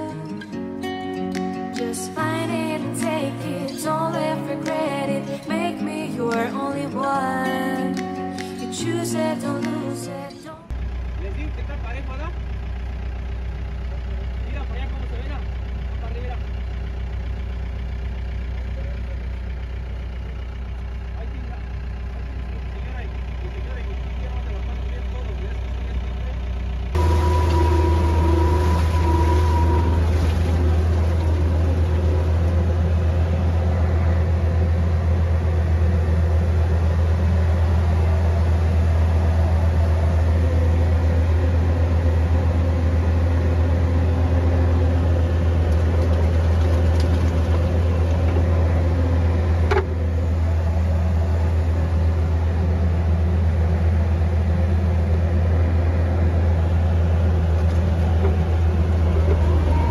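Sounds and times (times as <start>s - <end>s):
farm machine engine humming: 0.0s - 59.9s
higher engine whine: 0.0s - 59.9s.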